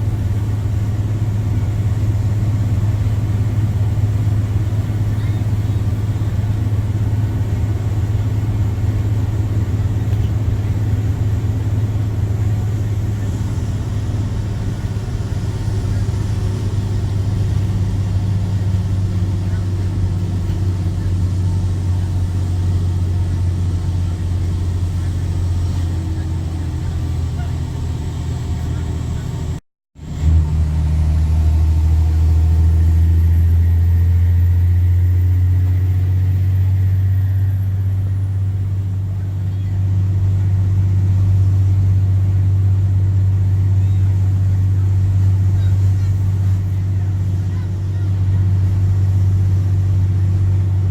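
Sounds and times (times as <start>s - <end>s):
diesel engine droning: 0.0s - 50.9s.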